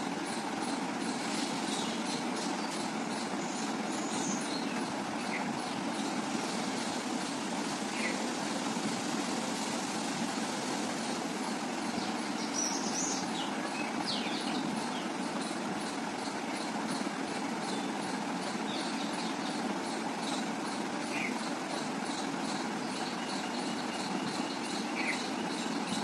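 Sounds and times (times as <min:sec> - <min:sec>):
outdoor background hum: 0:00.0 - 0:26.0.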